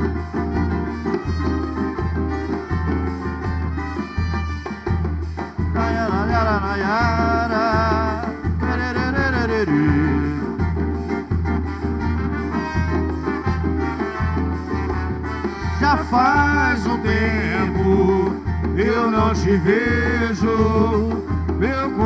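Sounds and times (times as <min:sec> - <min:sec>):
low drum and bass beat: 0:00.0 - 0:22.0.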